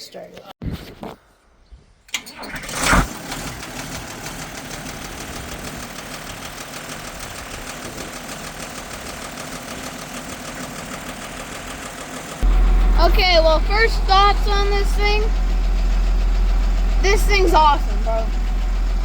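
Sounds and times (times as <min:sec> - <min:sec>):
diesel tractor engine starting: 0:02.1 - 0:19.0.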